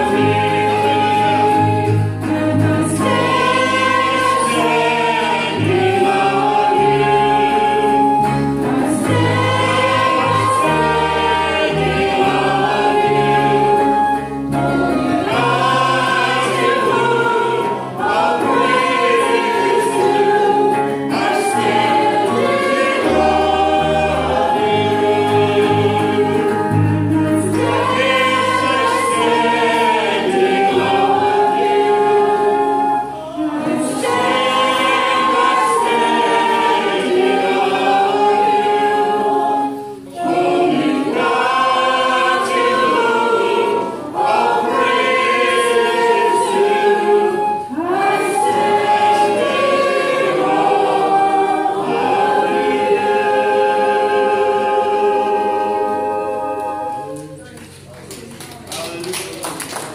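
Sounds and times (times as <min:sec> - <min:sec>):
group singing a worship song: 0:00.0 - 0:58.0.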